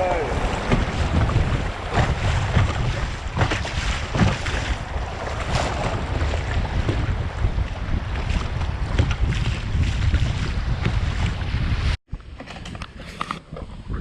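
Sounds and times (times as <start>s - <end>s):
river water moving: 0.0s - 13.0s
wind rumbling on microphone: 0.0s - 14.0s.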